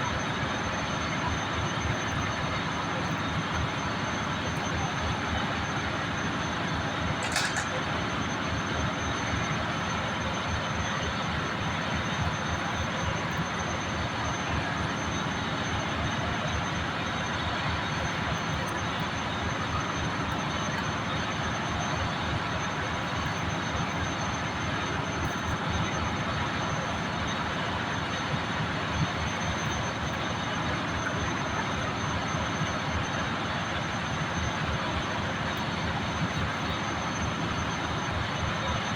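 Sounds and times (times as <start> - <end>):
engine-room machinery drone: 0.0 - 38.9.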